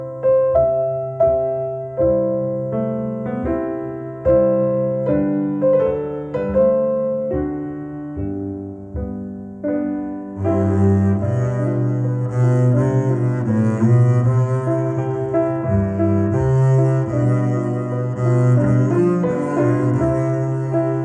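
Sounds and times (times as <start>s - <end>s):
solo piano music through speakers: 0.0s - 21.0s.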